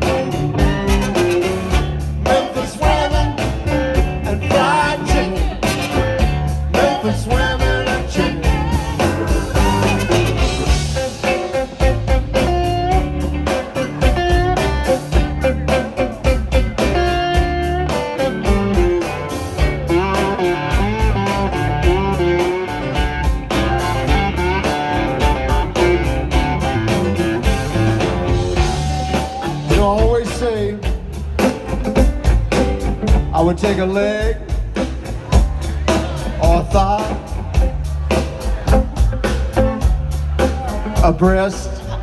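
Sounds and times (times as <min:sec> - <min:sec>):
bass and drums: 0:00.0 - 0:42.0
blues guitar lead: 0:00.0 - 0:42.0.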